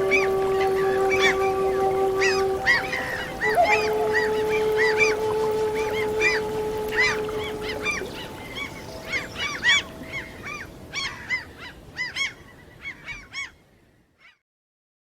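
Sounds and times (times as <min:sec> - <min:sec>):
gulls calling: 0:00.0 - 0:13.5.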